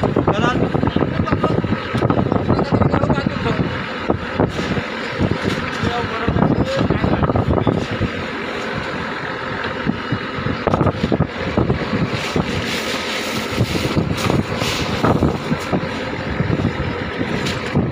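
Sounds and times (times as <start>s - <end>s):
boat engine running: 0.0s - 17.9s.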